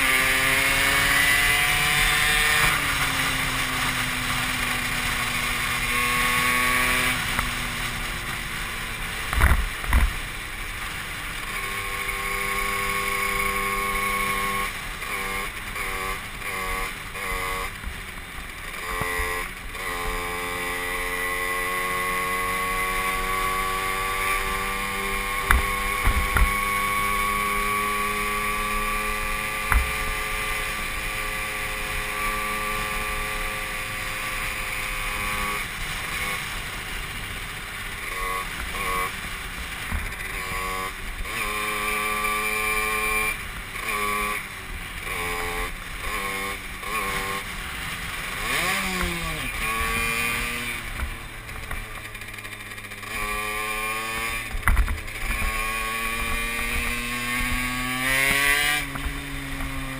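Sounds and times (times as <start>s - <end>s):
moped engine revving: 0.0s - 59.9s.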